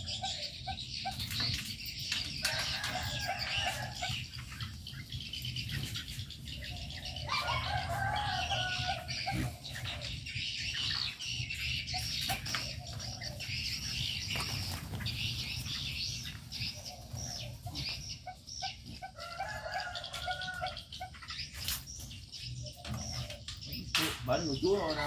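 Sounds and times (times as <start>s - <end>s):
birds chirping: 0.0s - 25.0s
lower bird calls: 0.0s - 25.0s.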